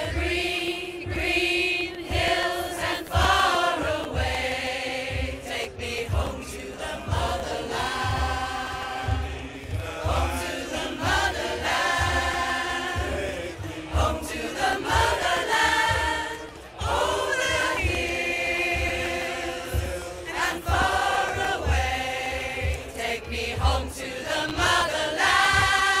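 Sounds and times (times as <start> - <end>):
low drum beat: 0.0 - 26.0
women's choir singing in harmony: 0.0 - 26.0.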